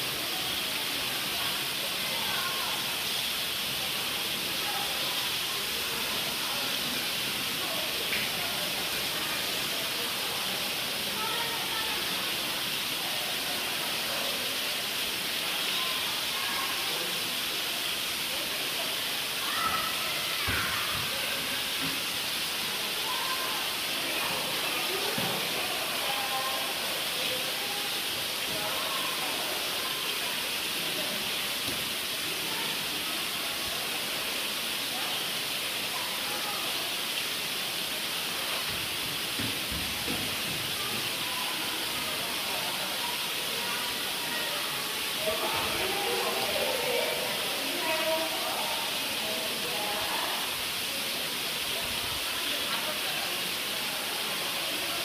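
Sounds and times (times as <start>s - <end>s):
faint distant voices: 0.0s - 55.0s.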